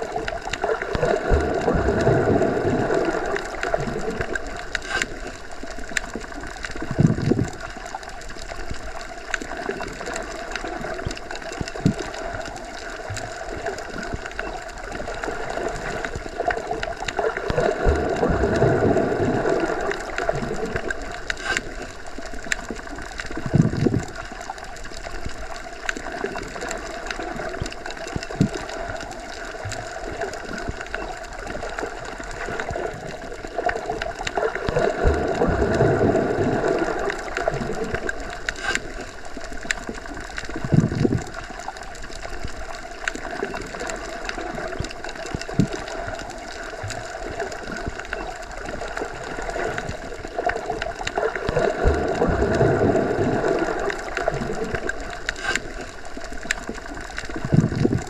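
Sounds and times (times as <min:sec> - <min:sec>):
underwater muffled wash: 0:00.0 - 0:58.0.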